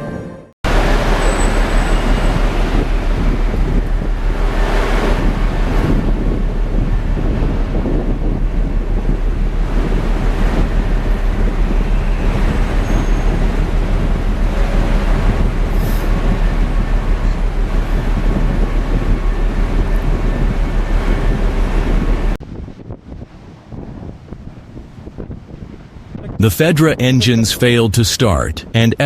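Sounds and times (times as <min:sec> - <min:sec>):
sea in a storm: 0:00.7 - 0:29.0
storm wind: 0:00.7 - 0:29.0.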